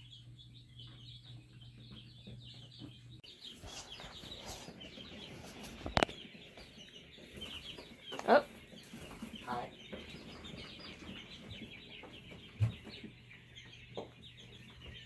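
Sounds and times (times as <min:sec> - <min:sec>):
chicks cheeping: 0:00.0 - 0:15.0.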